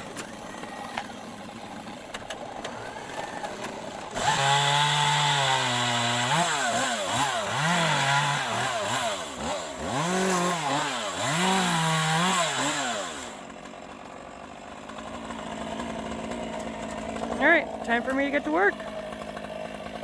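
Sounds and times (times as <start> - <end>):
chainsaw revving while cutting: 0.0 - 20.0.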